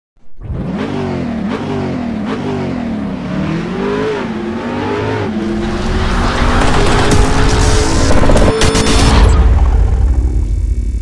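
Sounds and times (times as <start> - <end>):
car engine revving: 0.4 - 10.6.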